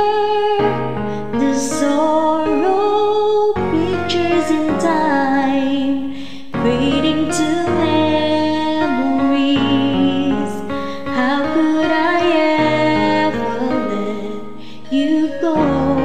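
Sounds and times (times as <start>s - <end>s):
karaoke backing track: 0.0s - 16.0s
woman singing a ballad: 0.0s - 16.0s.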